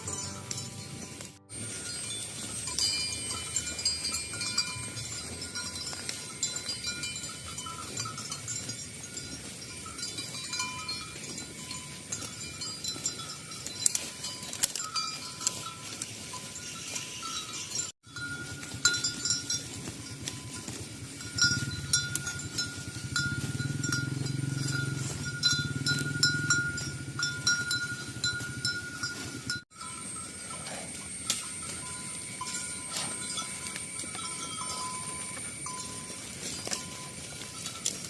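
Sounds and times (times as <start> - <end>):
cattle bells clinking and ringing: 0.0 - 38.0
high ringing tones: 0.0 - 38.0.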